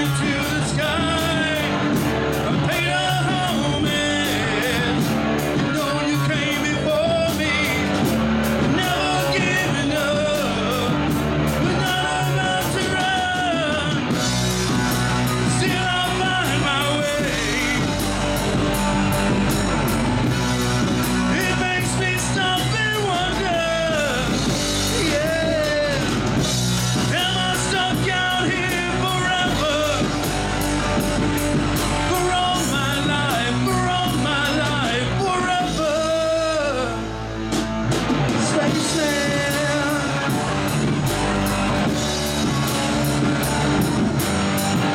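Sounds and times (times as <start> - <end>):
man singing: 0.0 - 19.3, 21.0 - 30.3, 31.8 - 37.2, 38.2 - 40.8
live rock band playing: 0.0 - 44.9.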